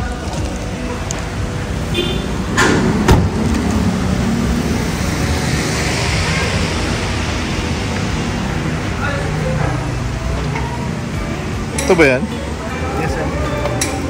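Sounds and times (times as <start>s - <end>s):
vehicle noise: 0.0s - 14.0s.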